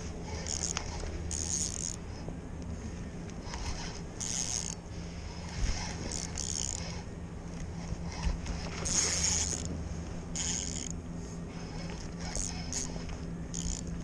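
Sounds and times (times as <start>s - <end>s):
steady low hum: 0.0s - 14.0s
fishing reel whirring and clicking: 0.1s - 2.3s, 3.2s - 14.0s.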